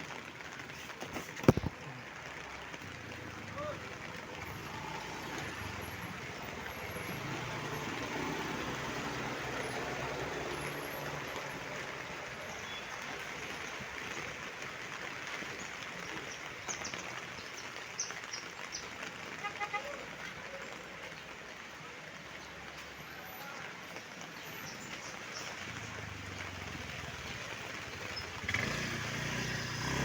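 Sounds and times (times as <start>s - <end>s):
vehicle rumble: 0.0s - 16.4s, 21.2s - 30.0s
heavy rain and wind: 0.0s - 30.0s.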